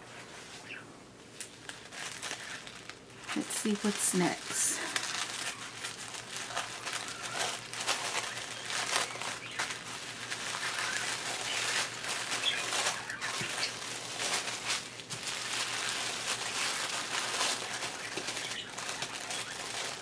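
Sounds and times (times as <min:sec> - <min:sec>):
packaging crinkling: 0:00.6 - 0:20.0.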